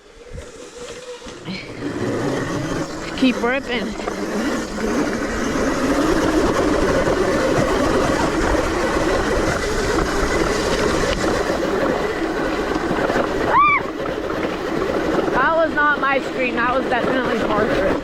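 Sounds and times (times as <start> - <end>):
bike rumbling and rattling on dirt: 0.0 - 18.0
electric motor whine: 0.0 - 18.0.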